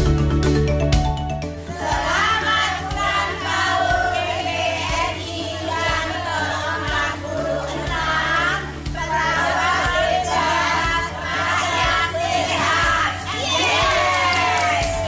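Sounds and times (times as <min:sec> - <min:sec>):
voices singing over music: 0:01.5 - 0:15.0.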